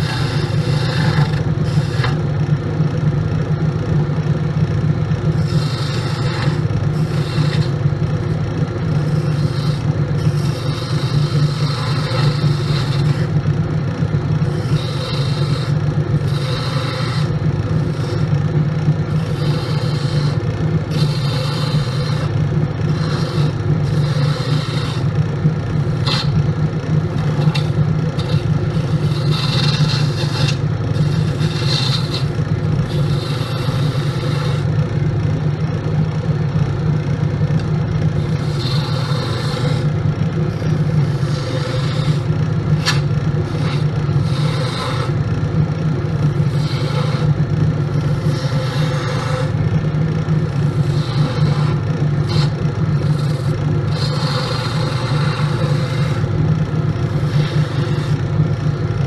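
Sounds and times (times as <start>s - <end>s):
turning tool scraping wood: 0.0s - 2.3s, 5.2s - 13.6s, 14.4s - 35.0s, 37.6s - 59.0s
lathe motor hum: 0.0s - 59.0s.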